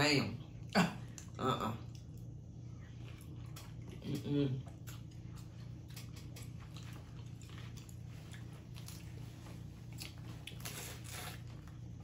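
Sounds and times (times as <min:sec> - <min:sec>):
steady low hum: 0:00.0 - 0:12.0
chewing: 0:00.6 - 0:12.0.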